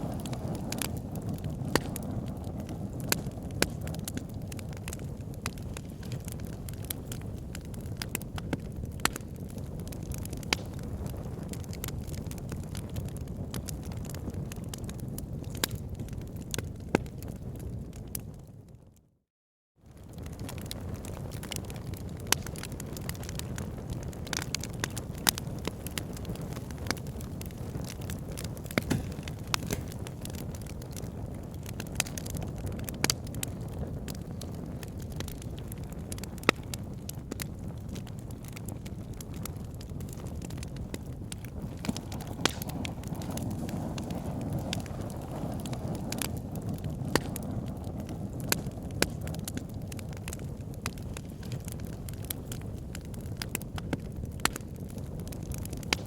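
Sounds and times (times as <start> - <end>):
burning logs crackling: 0.0 - 19.0, 19.9 - 56.0
fire roaring: 0.0 - 19.0, 19.8 - 56.0.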